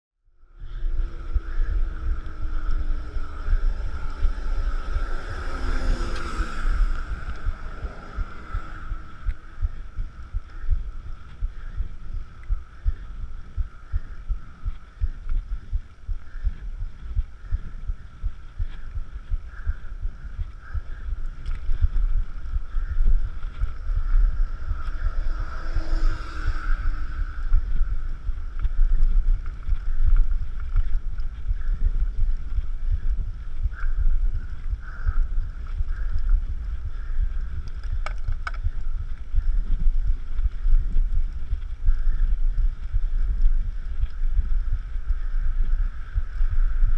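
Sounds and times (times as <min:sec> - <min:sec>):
wind noise on microphone: 0:00.2 - 0:46.9
fast heartbeat pulsing: 0:00.6 - 0:46.9.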